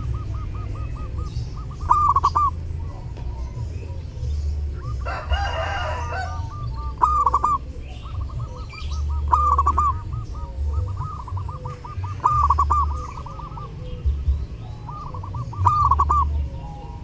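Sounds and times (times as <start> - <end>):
dense bird call: 0.0 - 17.0
dove cooing: 0.0 - 17.0.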